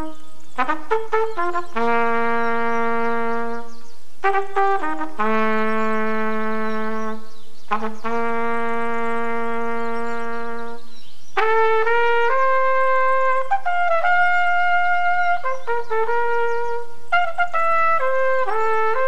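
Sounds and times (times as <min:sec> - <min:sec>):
flugelhorn playing: 0:00.0 - 0:19.0.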